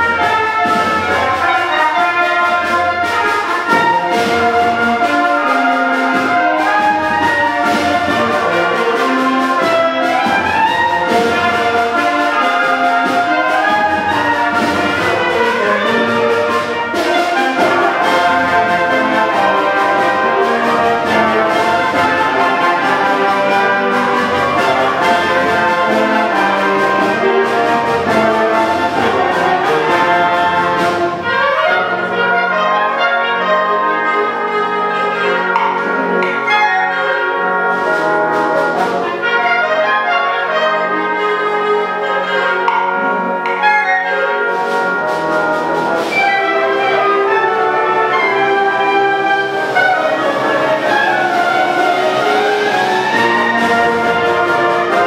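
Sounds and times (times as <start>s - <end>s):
band playing brass-led piece: 0.0s - 55.0s.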